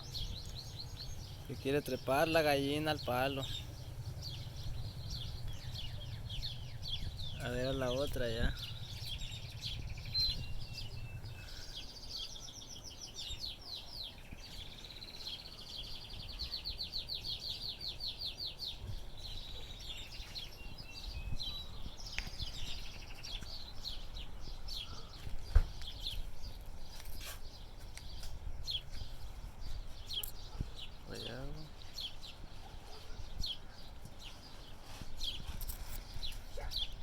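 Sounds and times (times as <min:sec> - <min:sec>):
small birds singing: 0:00.0 - 0:37.0.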